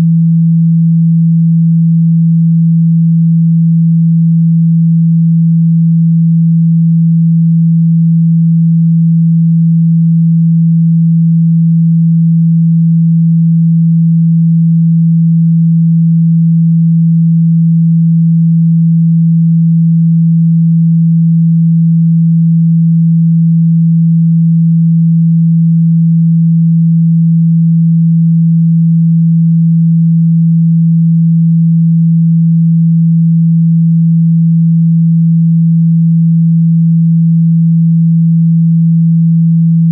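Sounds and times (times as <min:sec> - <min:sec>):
low pure tone: 0:00.0 - 0:39.9.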